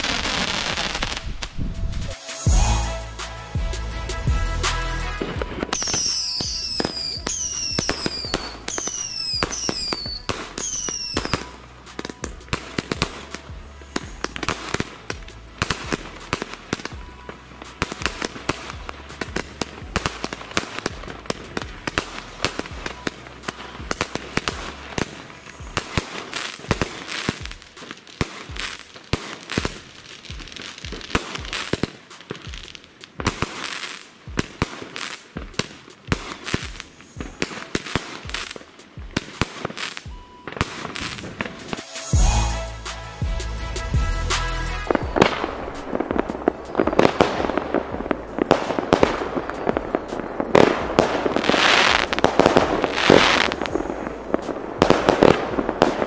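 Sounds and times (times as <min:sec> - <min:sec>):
firework pops and crackling: 0:00.0 - 0:02.5, 0:05.2 - 0:42.4, 0:44.3 - 0:56.0
background music: 0:00.0 - 0:56.0.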